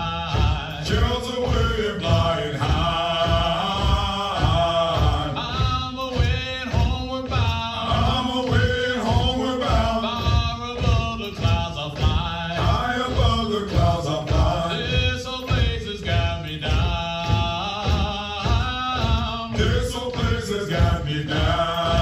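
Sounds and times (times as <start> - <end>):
men chanting a marching song: 0.0 - 22.0
steady low beat: 0.0 - 22.0.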